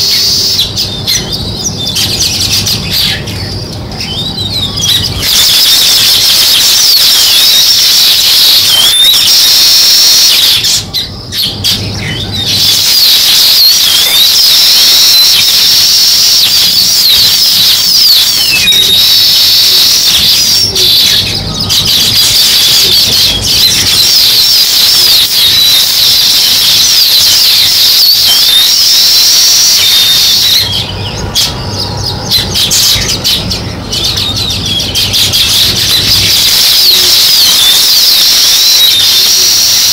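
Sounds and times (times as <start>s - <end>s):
sparrows chirping: 0.0s - 37.5s.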